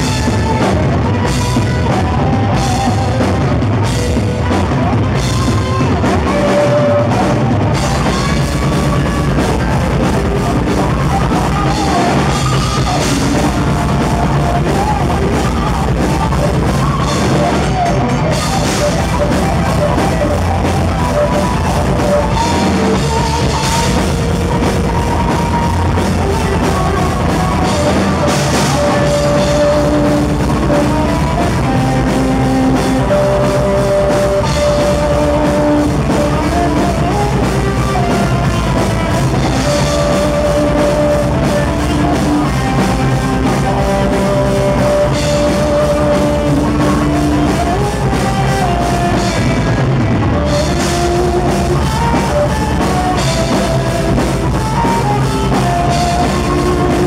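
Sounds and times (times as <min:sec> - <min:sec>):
hard rock band playing: 0:00.0 - 0:57.0.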